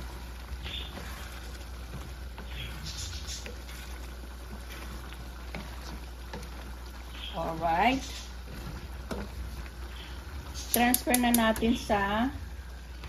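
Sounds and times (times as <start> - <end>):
wooden spatula scraping a pan: 0.0 - 11.9
sauce simmering and bubbling: 0.0 - 13.0.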